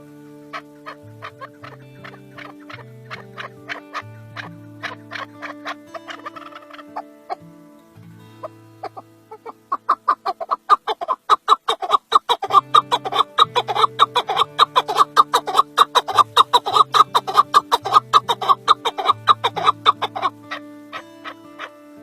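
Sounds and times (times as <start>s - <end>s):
partridge clucking calls: 0.0s - 7.5s, 8.4s - 22.0s
background music with low notes: 0.0s - 22.0s.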